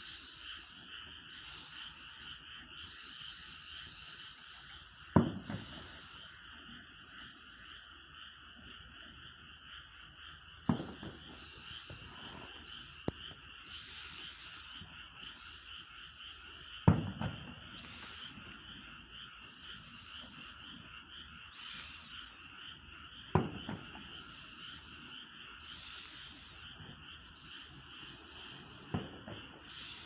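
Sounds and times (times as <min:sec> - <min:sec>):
frogs trilling: 0:00.0 - 0:30.0
distant fireworks booming: 0:00.2 - 0:07.8, 0:10.4 - 0:21.4, 0:22.1 - 0:30.0.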